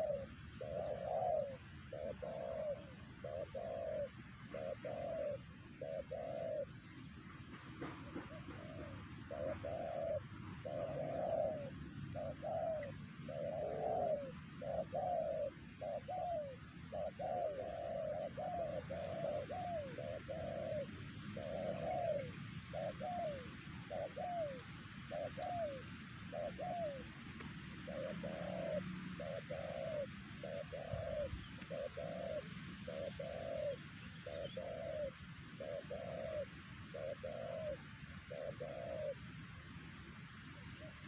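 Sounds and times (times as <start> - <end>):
background noise: 0.0 - 41.0
doves cooing: 0.0 - 41.0.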